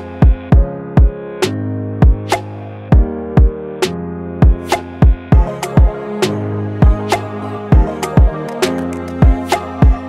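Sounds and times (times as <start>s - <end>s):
electronic music with a beat: 0.0s - 10.0s
synth chords: 0.0s - 10.0s.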